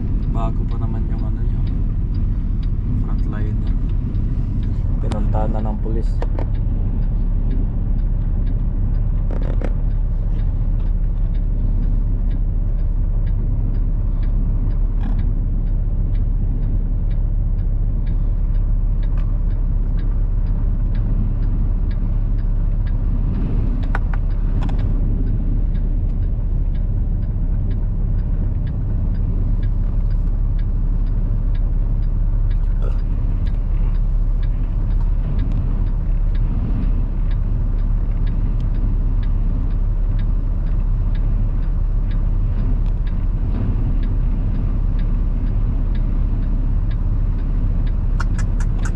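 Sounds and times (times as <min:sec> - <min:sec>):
truck engine and road rumble: 0:00.0 - 0:48.9
faint clicks and taps: 0:00.2 - 0:48.9.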